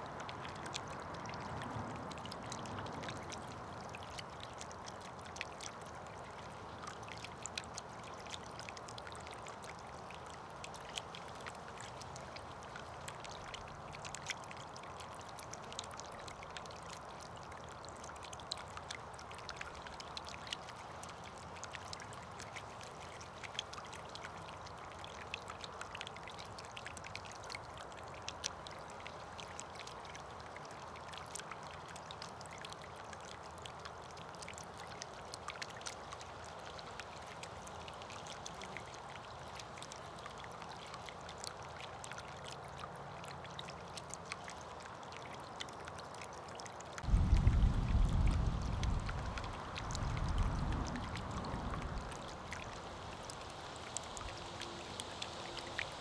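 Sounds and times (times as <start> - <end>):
small drips and clicks: 0.0 - 56.0
trickle of running water: 0.0 - 56.0.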